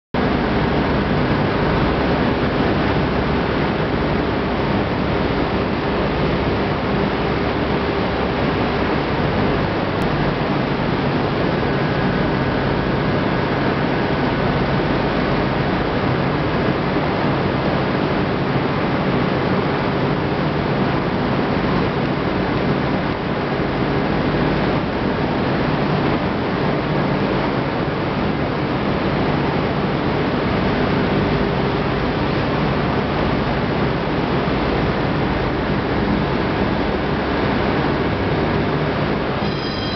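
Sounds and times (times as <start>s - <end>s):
milling machinery humming: 0.2s - 39.9s.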